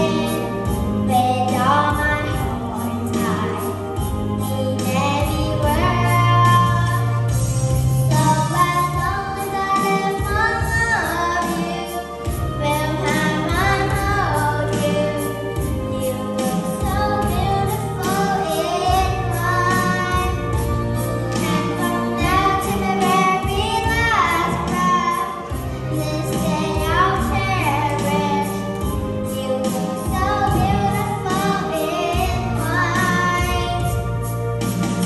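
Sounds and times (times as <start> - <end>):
girl singing: 0.0 - 3.8, 4.4 - 7.3, 8.0 - 20.7, 21.3 - 34.0
backing track with beat: 0.0 - 35.0.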